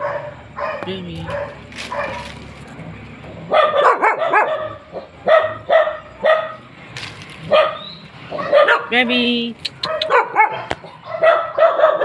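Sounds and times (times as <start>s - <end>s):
dog barking: 0.0s - 2.3s, 3.4s - 6.6s, 7.5s - 12.0s.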